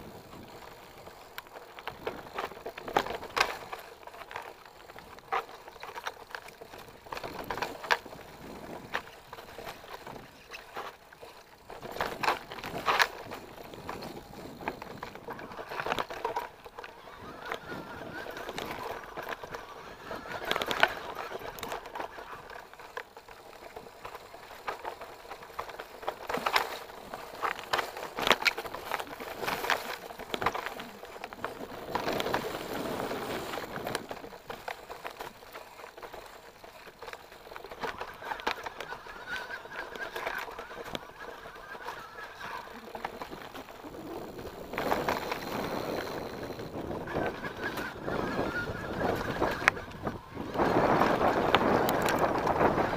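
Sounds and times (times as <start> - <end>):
bike rattling over roots and stones: 0.0 - 52.9
tyre noise: 0.0 - 52.9
wind: 0.0 - 52.9.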